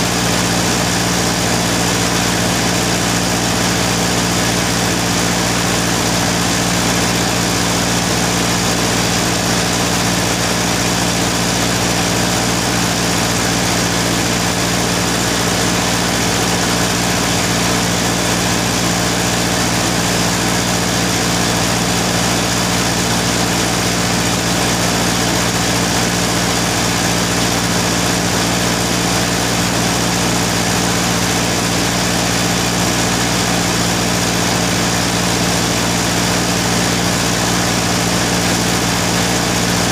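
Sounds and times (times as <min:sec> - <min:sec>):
machine humming with hiss: 0:00.0 - 0:39.9.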